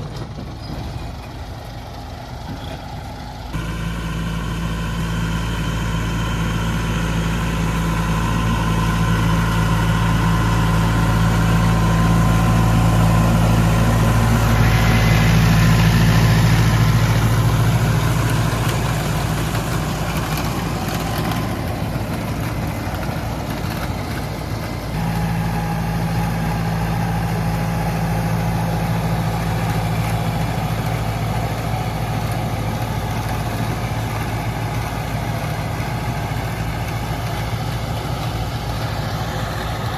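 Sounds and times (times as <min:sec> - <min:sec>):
baler machinery noise: 0:00.0 - 0:39.9
tractor engine running: 0:00.0 - 0:39.9.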